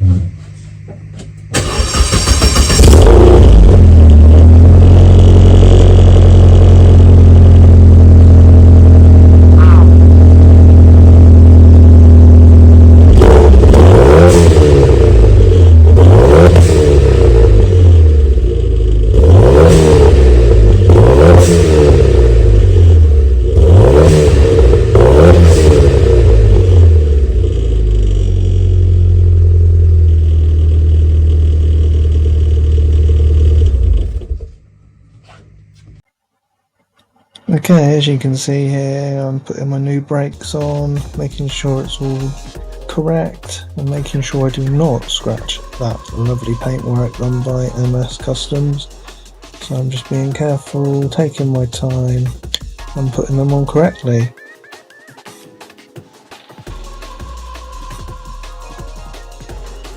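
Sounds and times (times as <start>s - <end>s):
car engine idling: 0.0s - 36.0s, 37.5s - 54.3s
car engine revving: 0.0s - 36.0s, 37.6s - 54.3s.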